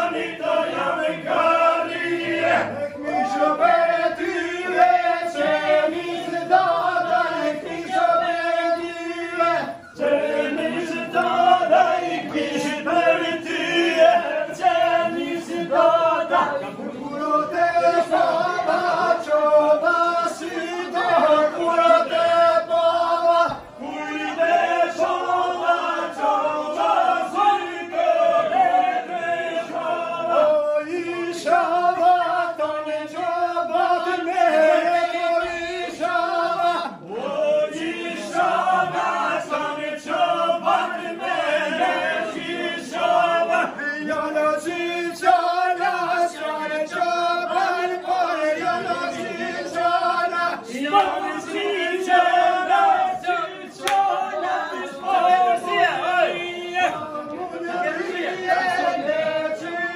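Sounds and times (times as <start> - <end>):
group singing folk song: 0.0 - 59.9.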